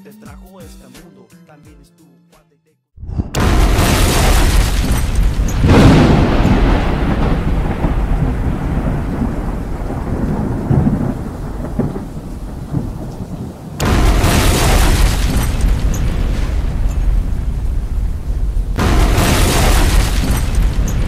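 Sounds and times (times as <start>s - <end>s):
huge rumbling explosion: 3.0s - 21.0s.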